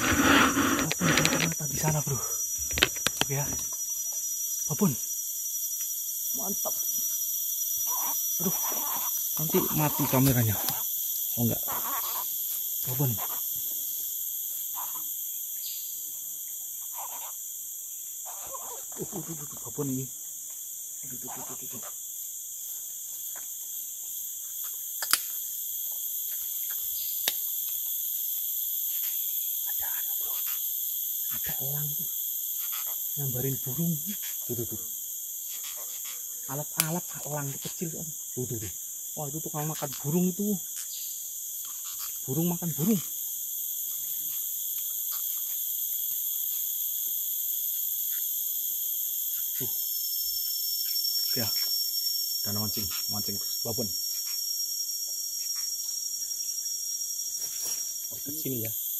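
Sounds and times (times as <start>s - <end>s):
high-pitched insect chorus: 0.0s - 58.9s.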